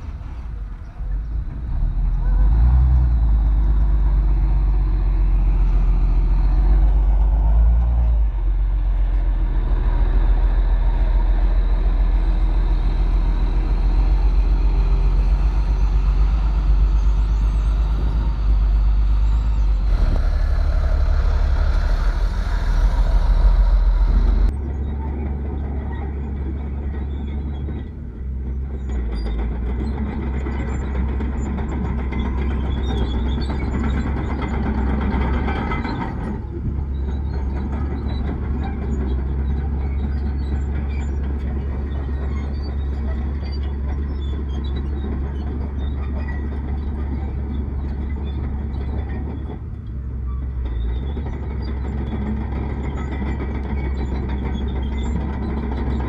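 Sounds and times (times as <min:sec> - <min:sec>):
heavy diesel machinery rumble: 0:00.0 - 0:56.0.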